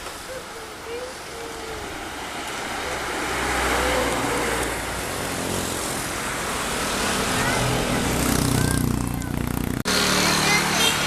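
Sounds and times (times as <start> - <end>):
vehicle passing by: 0.5 - 11.0.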